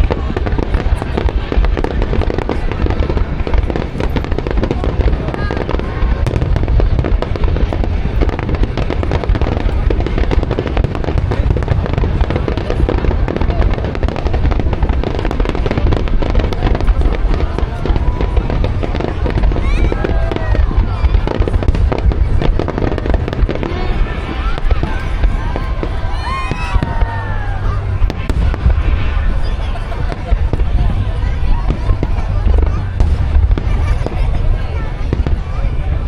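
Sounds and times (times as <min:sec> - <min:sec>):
fireworks booming and crackling: 0:00.0 - 0:36.0.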